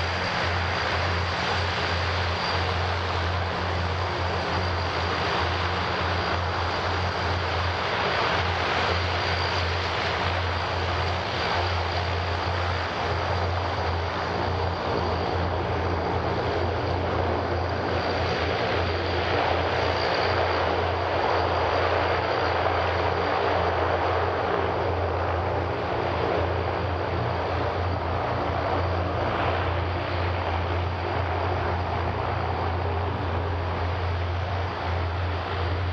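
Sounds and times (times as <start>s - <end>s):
turboprop engines droning: 0.0s - 35.9s.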